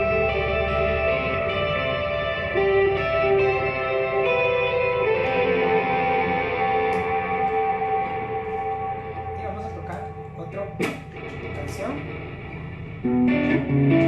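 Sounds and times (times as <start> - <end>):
electric guitar with heavy reverb: 0.0 - 14.0.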